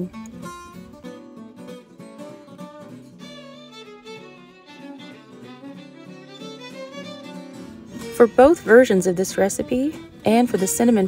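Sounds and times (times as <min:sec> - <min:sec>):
acoustic guitar notes: 0:00.0 - 0:11.0.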